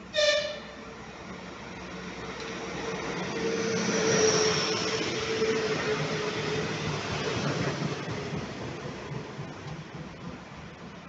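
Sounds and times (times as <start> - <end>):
train humming tone: 0.0 - 11.0
train wheels rushing on rails: 0.1 - 11.0.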